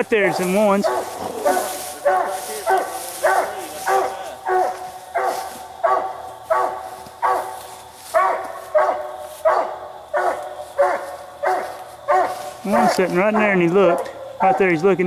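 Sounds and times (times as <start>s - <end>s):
hound barking: 0.2s - 15.0s.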